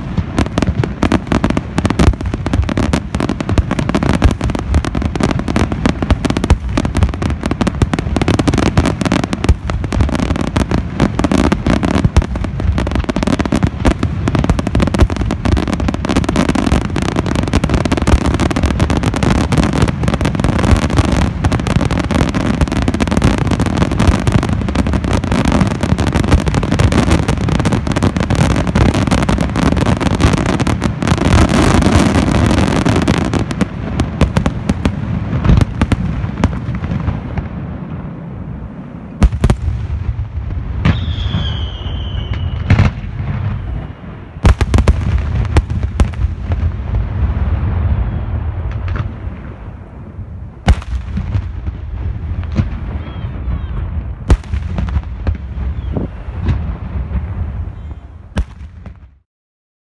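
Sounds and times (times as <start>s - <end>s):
fireworks bursting: 0.0s - 59.3s.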